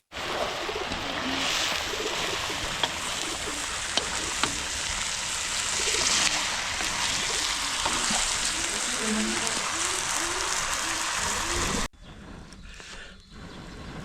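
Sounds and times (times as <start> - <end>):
steady rain falling: 0.1 - 11.9.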